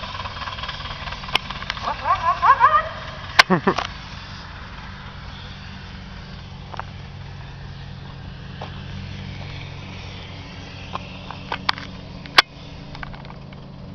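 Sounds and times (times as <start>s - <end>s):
low engine hum: 0.0s - 13.9s.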